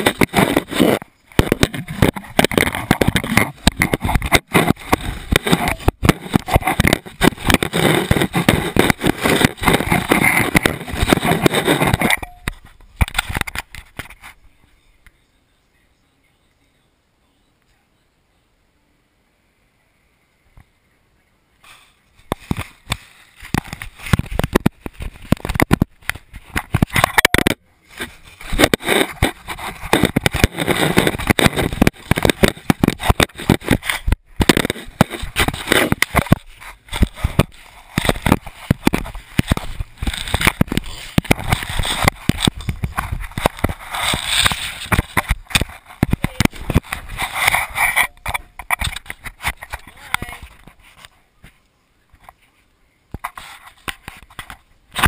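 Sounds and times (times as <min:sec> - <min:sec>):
knocking and scraping on camera: 0:00.0 - 0:14.4, 0:22.2 - 0:52.5, 0:53.1 - 0:55.0.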